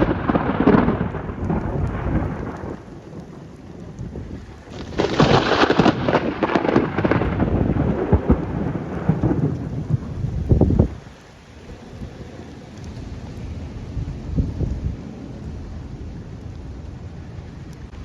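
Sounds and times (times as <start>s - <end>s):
rain falling: 0.0s - 18.0s
thunder crack and rumble: 0.0s - 18.0s.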